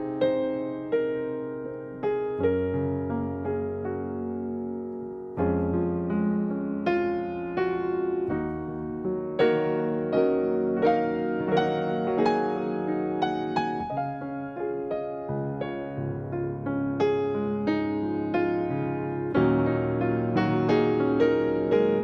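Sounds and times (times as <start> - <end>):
slow keyboard melody: 0.0 - 22.0.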